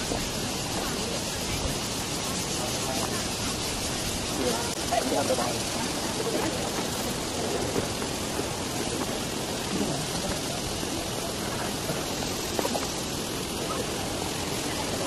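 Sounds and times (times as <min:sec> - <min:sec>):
faint voices: 0:00.0 - 0:15.0
rushing water hiss: 0:00.0 - 0:15.0.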